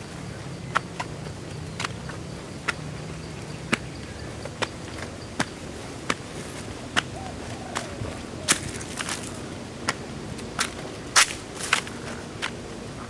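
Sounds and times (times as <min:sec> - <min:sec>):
footsteps on stone steps: 0:00.2 - 0:12.6.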